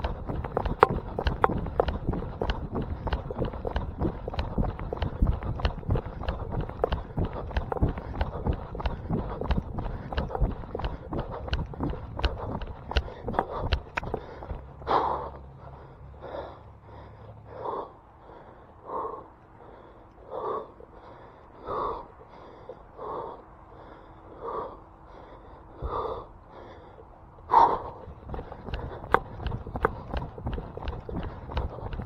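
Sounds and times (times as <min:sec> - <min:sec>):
person breathing hard: 0:00.0 - 0:32.0.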